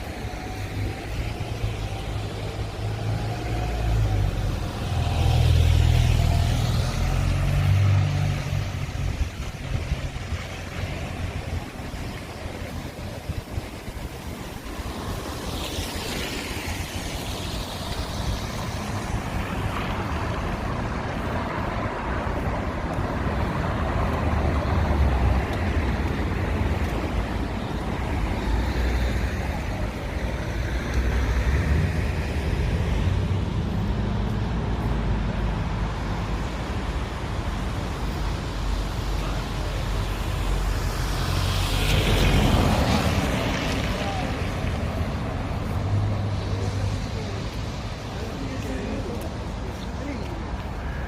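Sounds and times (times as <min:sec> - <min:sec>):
cars and buses passing: 0:00.0 - 0:51.0.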